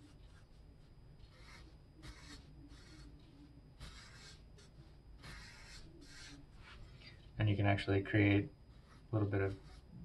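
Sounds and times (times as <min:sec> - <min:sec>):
marker scratching on paper: 0:00.0 - 0:07.1, 0:08.7 - 0:10.0.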